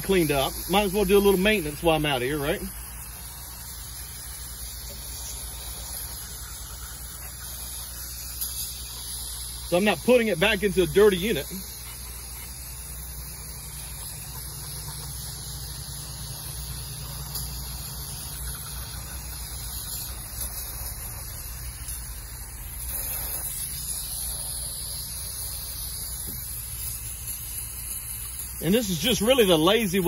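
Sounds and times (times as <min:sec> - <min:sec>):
aerosol spray hissing: 0:00.0 - 0:30.0.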